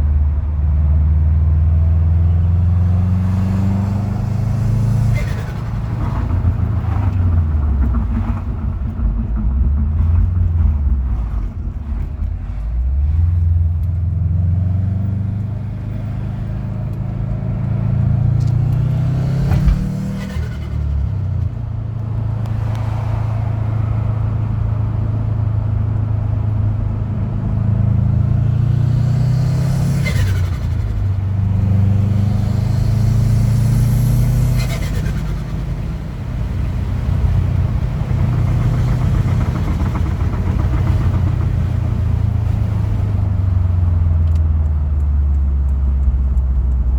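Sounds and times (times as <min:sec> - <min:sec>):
turbocharged car engine revving: 0:01.4 - 0:46.9.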